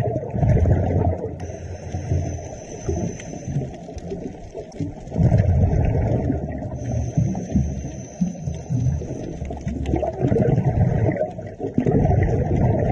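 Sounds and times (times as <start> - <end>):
underwater regulator bubbling: 0.0 - 12.9.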